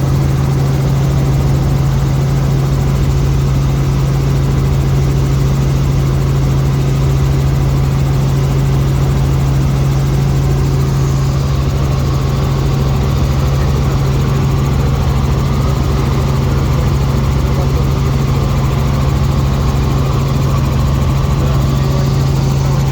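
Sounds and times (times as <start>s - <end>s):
helicopter engine and rotor drone: 0.0s - 22.9s.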